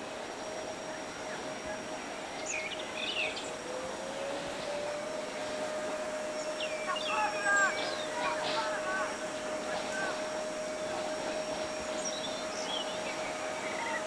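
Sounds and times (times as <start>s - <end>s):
gliding tone: 0.0s - 14.0s
held hum-like tone: 0.0s - 14.0s
steady ambient hiss: 0.0s - 14.0s.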